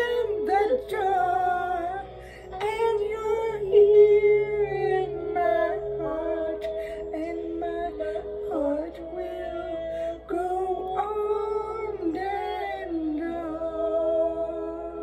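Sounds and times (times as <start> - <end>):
soft instrumental backing track: 0.0 - 15.0
woman singing wordless held notes: 0.0 - 15.0.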